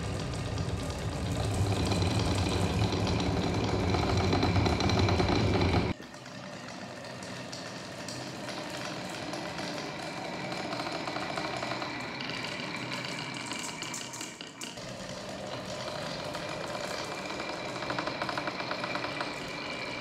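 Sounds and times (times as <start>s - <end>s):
marbles rattling down wooden tracks: 0.0s - 20.0s.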